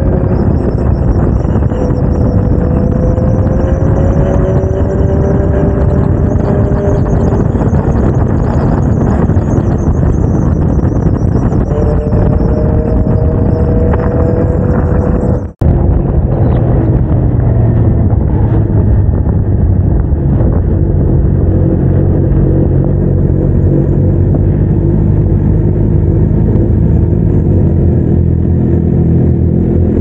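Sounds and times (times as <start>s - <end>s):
motorcycle engine at low revs: 0.0s - 30.0s.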